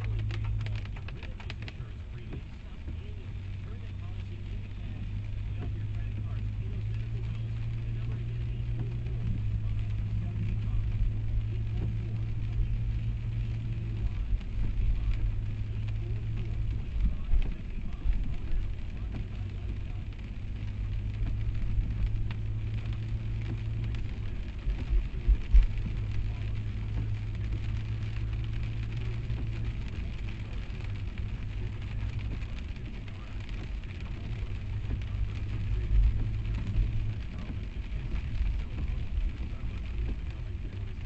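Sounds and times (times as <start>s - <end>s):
engine and road noise hum: 0.0s - 41.0s
tyres hissing on wet road: 0.0s - 41.0s.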